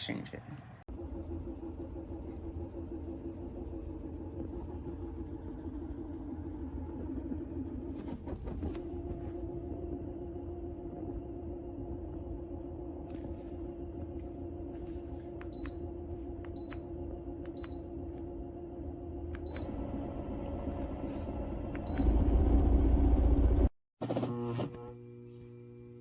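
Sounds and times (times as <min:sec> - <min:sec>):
vibration plate motor humming: 0:00.9 - 0:26.0.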